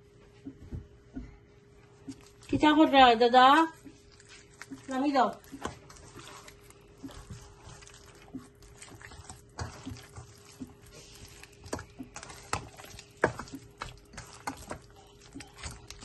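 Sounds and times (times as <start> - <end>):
faint steady hum: 0.0 - 16.0
wet squelches of kneading meat: 1.7 - 16.0.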